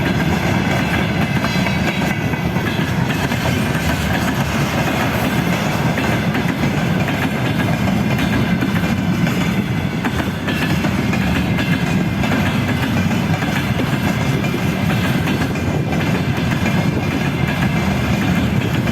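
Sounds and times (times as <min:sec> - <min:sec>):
steel wheels rumbling on rail: 0:00.0 - 0:18.9.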